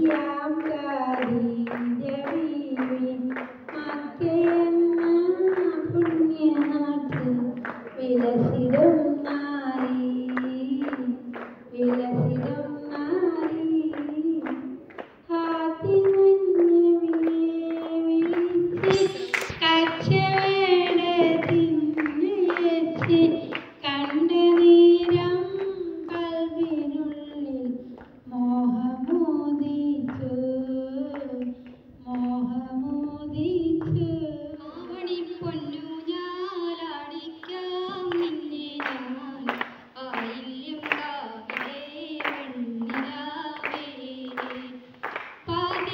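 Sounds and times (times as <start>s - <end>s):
woman singing through loudspeaker: 0.0s - 45.9s.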